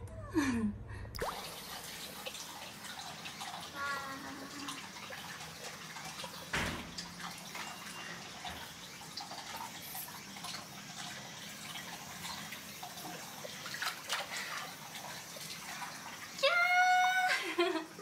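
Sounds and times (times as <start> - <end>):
water splashing: 1.2 - 16.9
water dripping and lapping: 1.2 - 18.0.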